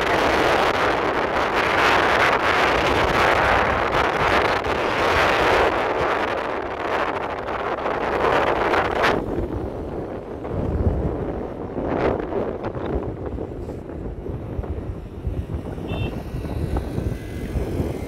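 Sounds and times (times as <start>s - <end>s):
moving vehicle: 0.0s - 18.0s
wind buffeting microphone: 0.0s - 18.0s.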